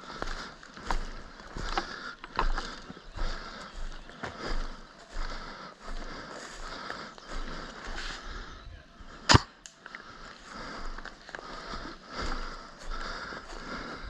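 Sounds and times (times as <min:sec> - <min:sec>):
rustling of movement: 0:00.0 - 0:14.0.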